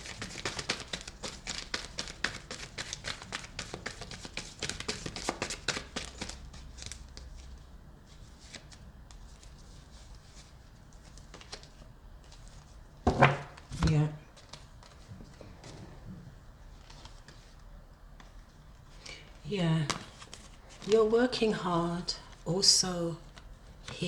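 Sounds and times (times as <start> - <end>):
cards being shuffled: 0.0 - 7.6, 8.3 - 16.0, 16.7 - 21.1.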